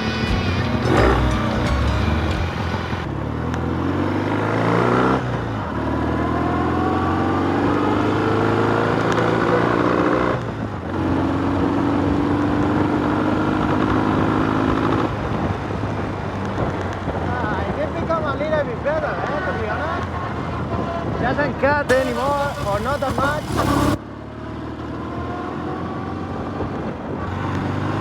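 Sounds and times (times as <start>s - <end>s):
motorcycle engine accelerating: 0.0s - 17.5s, 21.9s - 28.0s.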